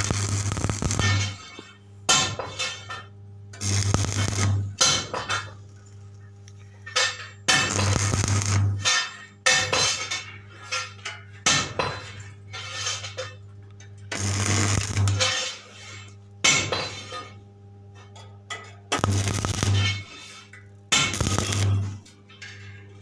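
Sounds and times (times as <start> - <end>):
arc welding machine humming: 0.0 - 10.2, 11.8 - 17.4, 18.6 - 23.0
metallic clinking and crackling: 0.0 - 17.4, 18.0 - 23.0.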